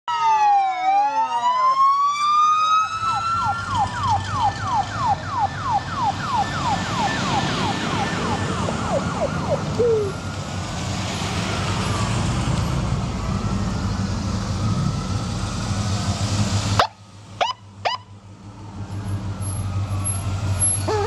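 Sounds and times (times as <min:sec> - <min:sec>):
emergency vehicle siren: 0:00.1 - 0:21.0
low vehicle rumble: 0:02.8 - 0:21.0.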